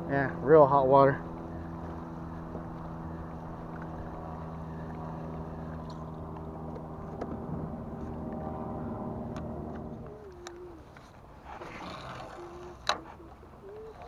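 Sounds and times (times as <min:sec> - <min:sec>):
electric boat motor humming: 0:00.0 - 0:14.0.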